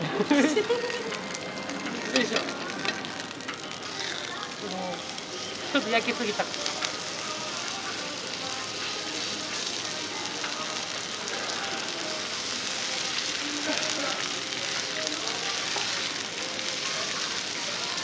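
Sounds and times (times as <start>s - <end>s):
steak sizzling on a griddle: 0.2s - 18.0s.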